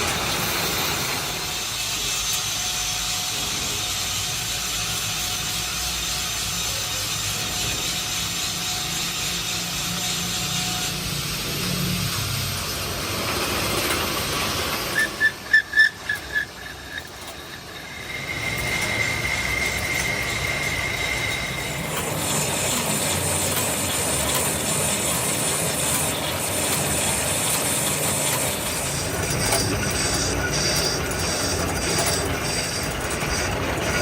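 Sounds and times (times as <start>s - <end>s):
high-pitched machine whine: 0.0s - 34.0s.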